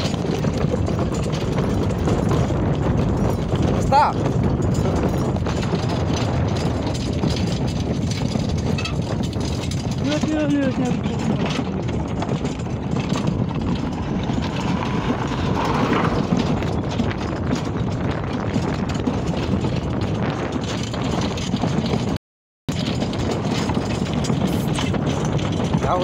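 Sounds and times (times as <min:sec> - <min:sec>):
cart wheels rattling on gravel: 0:00.0 - 0:26.0
hoofbeats on stones: 0:00.0 - 0:26.0.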